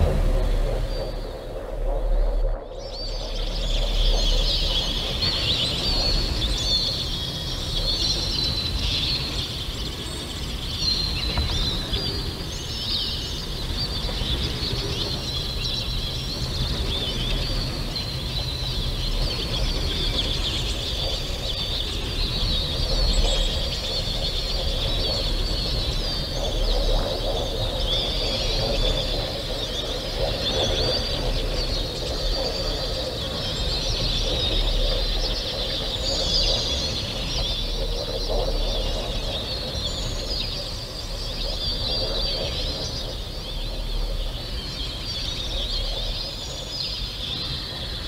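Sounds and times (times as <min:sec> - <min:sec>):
birds chirping and chattering: 0:00.0 - 0:48.0
steady low rumble: 0:00.0 - 0:48.0.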